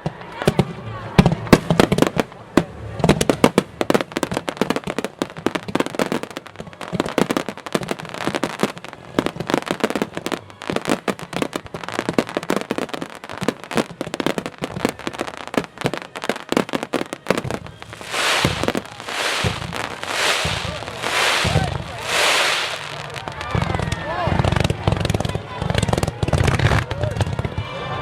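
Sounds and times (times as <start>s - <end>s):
fireworks bangs and crackles: 0.0s - 27.7s.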